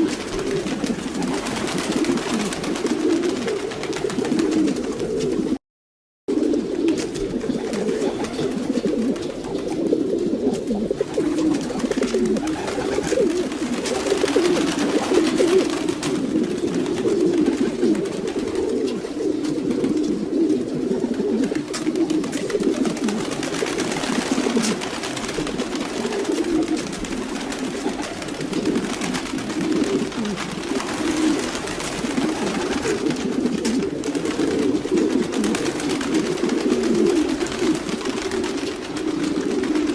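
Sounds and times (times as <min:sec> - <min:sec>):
pigeons cooing: 0:00.0 - 0:05.6, 0:06.3 - 0:39.9.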